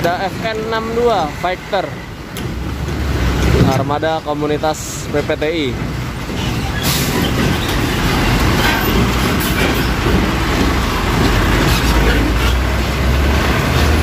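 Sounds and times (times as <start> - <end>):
diesel engine rumble: 0.0 - 14.0
truck body rattling: 2.3 - 14.0.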